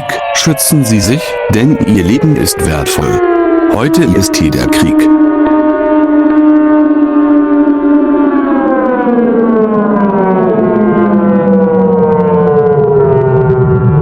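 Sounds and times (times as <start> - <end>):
siren winding down: 0.0 - 14.0.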